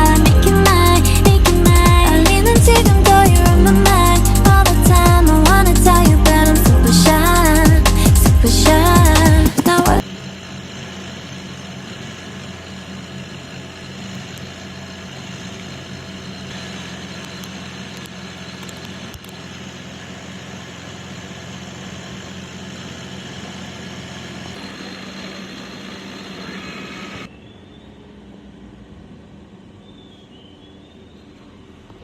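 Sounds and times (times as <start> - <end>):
milling machine drone: 0.0 - 27.3.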